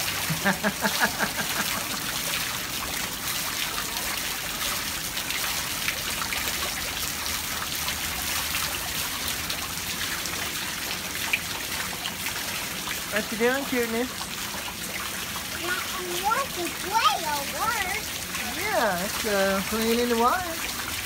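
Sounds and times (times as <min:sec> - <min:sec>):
steady rain hiss: 0:00.0 - 0:21.0
water drips and splashes: 0:00.0 - 0:21.0.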